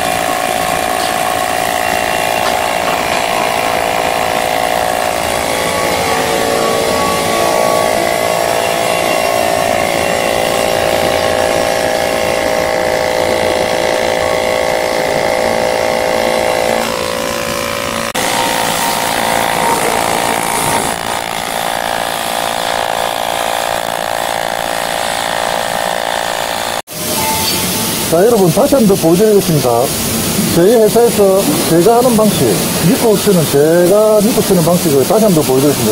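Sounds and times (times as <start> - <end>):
welding arc humming and hissing: 0.0 - 35.9.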